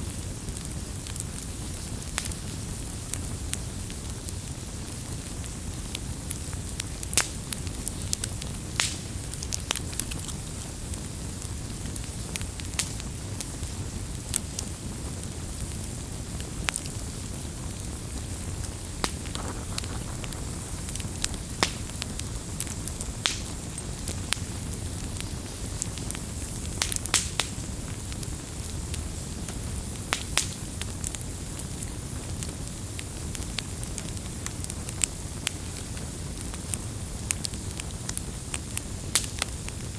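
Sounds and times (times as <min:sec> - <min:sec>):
burning wood crackling and popping: 0:00.0 - 0:39.9
low rumble of flame: 0:00.0 - 0:39.9.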